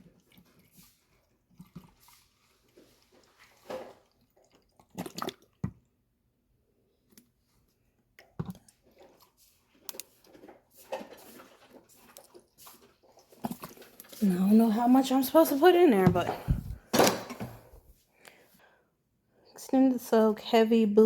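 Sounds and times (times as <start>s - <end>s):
liquid squishes: 0.0s - 6.0s, 6.9s - 17.8s.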